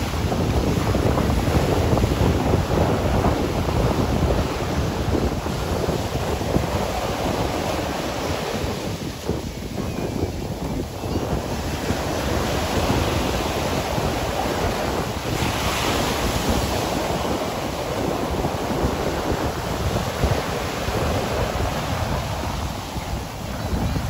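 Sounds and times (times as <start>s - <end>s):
ocean surf breaking on beach: 0.0s - 24.0s
wind buffeting microphone: 0.0s - 24.0s.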